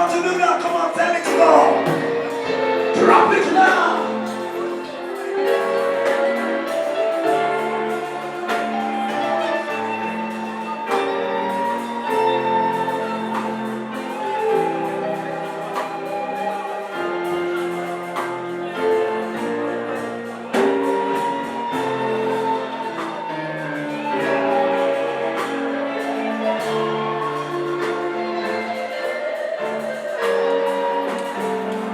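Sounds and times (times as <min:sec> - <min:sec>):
held shifting chords: 0:00.0 - 0:31.9
ticking percussion beat: 0:00.0 - 0:31.9.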